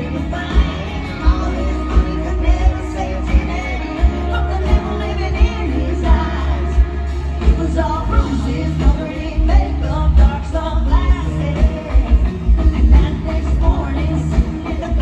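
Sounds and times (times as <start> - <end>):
bass: 0.0 - 15.0
country rock band playing: 0.0 - 15.0
heavy drums: 0.0 - 15.0
woman singing lead vocal: 0.0 - 15.0.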